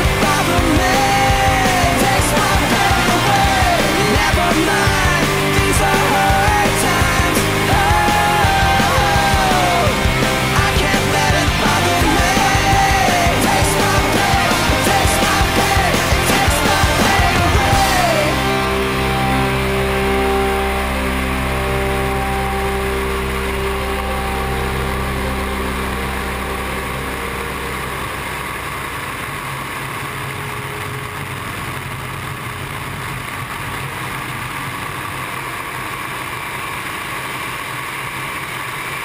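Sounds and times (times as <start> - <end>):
propeller plane humming: 0.0 - 36.3.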